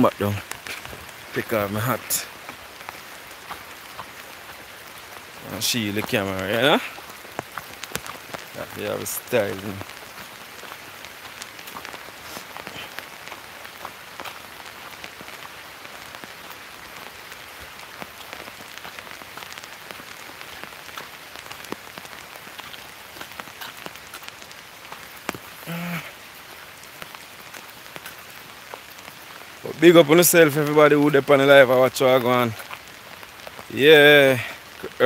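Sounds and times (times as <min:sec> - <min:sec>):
raindrops tapping on a hat: 0:00.0 - 0:35.0
steady rain falling: 0:00.0 - 0:35.0.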